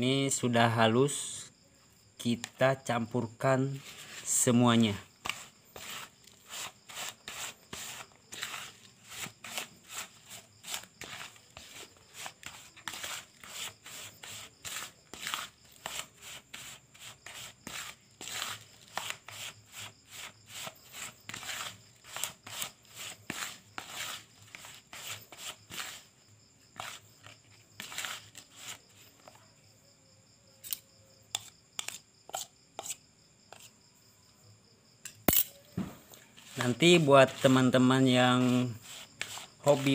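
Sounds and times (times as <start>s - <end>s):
plastic spoon scraping powder in bowl: 2.2s - 29.5s, 30.6s - 33.8s, 36.1s - 39.9s.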